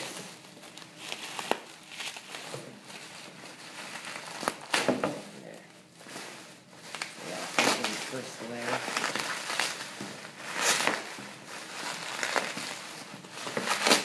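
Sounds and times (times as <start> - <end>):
packing wrap crinkling: 0.0 - 14.0.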